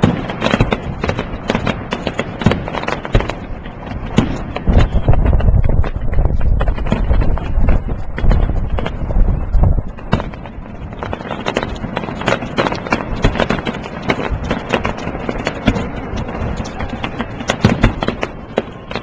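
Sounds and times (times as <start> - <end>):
fireworks and firecrackers banging: 0.0 - 19.0
heavy low rumble: 3.2 - 18.9.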